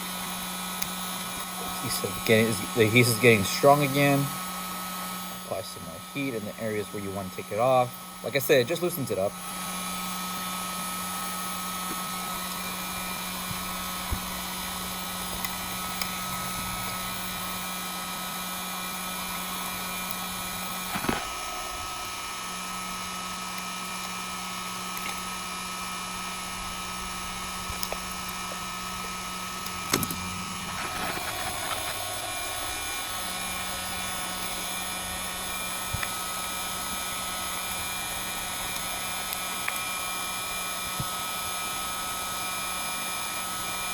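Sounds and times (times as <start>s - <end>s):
heat gun blowing: 0.0s - 43.9s.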